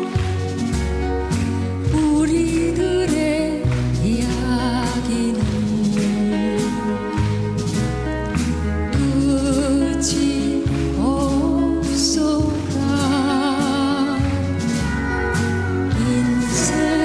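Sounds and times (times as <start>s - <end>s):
instrumental folk music: 0.0s - 17.0s.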